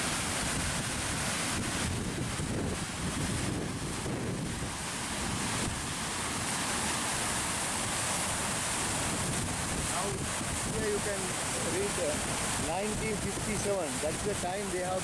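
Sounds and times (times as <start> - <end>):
water rushing and foaming: 0.0 - 15.0
wind buffeting microphone: 0.3 - 6.6, 8.6 - 14.6.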